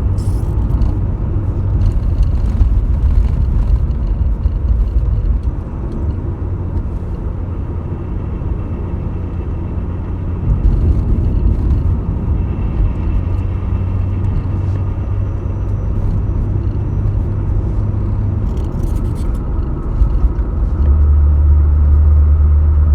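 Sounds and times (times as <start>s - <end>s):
car engine droning: 0.0s - 22.9s.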